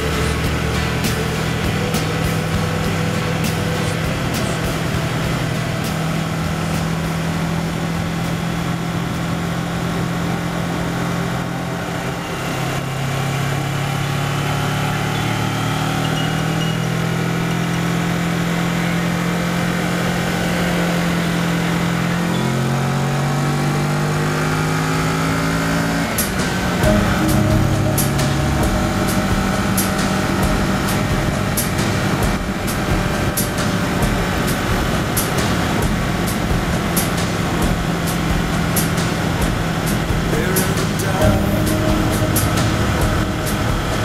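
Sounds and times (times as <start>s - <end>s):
motorcycle engine cruising: 0.0s - 44.0s.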